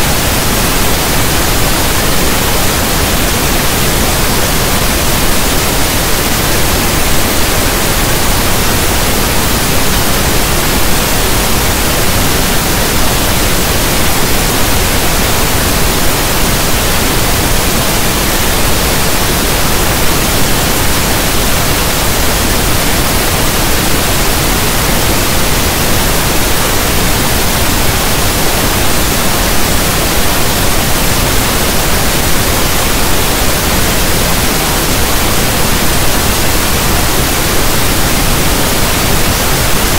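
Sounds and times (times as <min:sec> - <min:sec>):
pink noise static hiss: 0:00.0 - 0:39.9.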